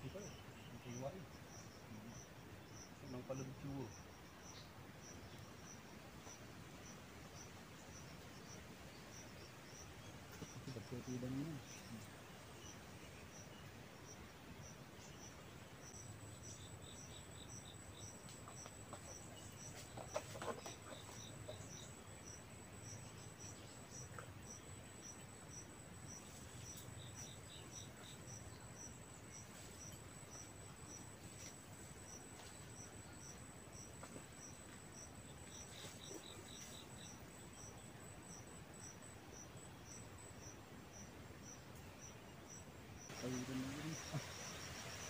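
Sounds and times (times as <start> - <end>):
insects chirping: 0.0 - 45.0.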